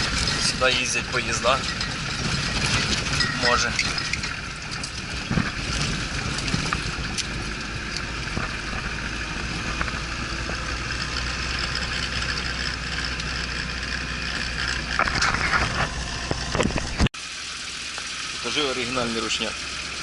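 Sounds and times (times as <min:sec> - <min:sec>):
light rattles: 0:00.0 - 0:17.0
vehicle engine and road noise: 0:00.0 - 0:20.0.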